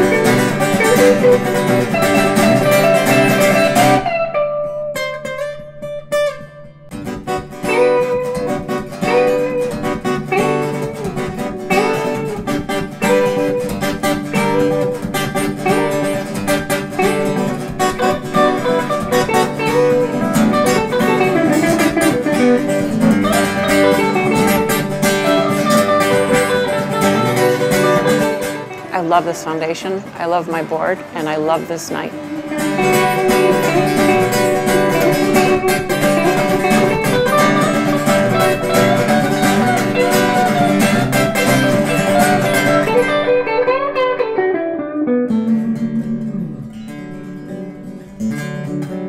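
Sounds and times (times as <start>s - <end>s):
acoustic guitar music: 0.0s - 49.0s.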